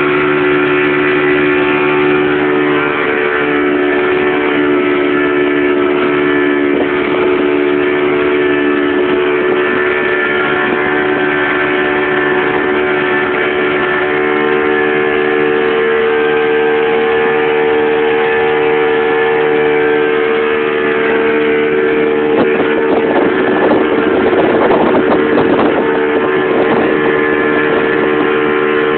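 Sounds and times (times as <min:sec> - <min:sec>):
motorboat engine drone: 0:00.0 - 0:28.9.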